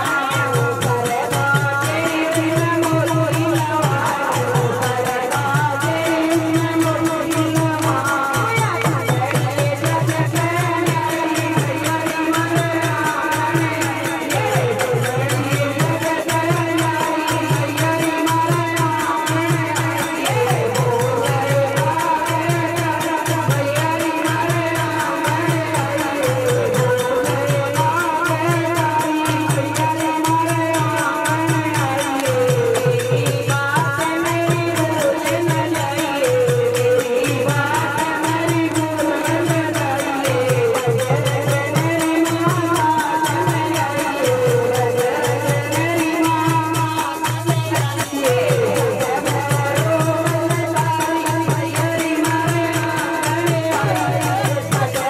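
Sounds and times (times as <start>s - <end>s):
steady drum beat: 0.0s - 55.0s
woman singing into a microphone: 0.0s - 55.0s.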